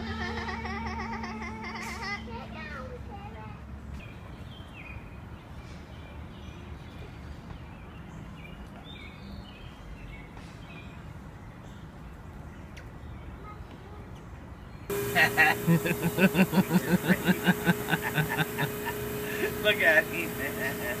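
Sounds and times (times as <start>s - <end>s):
low outdoor background noise: 0.0s - 21.0s.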